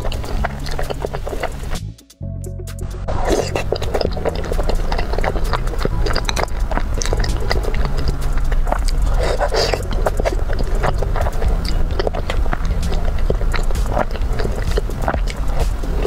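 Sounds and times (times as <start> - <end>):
wet chewing and mouth smacking: 0.0 - 1.9, 3.1 - 16.0
steady low hum: 0.0 - 16.0.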